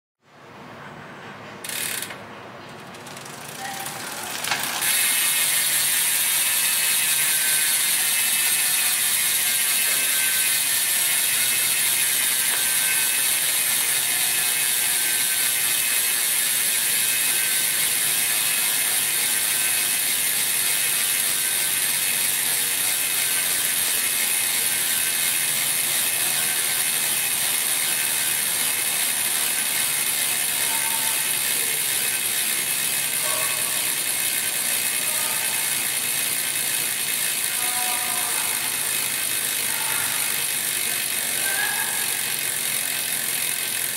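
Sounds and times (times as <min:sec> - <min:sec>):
bicycle hub ratchet buzzing: 0:01.6 - 0:02.2, 0:02.8 - 0:43.9.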